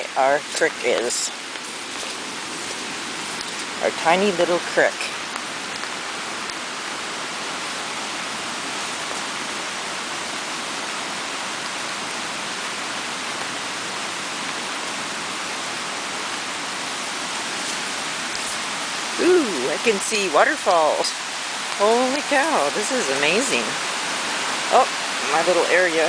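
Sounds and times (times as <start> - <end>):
creek torrent rushing: 0.0 - 26.0.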